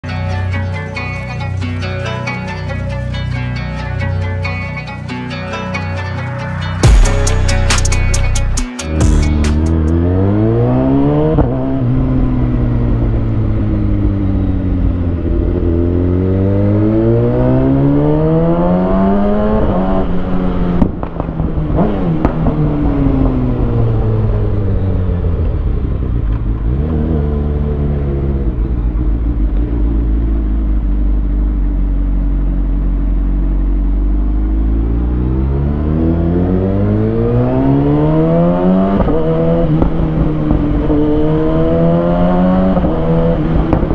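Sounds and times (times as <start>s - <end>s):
motorcycle engine revving: 8.5s - 43.9s.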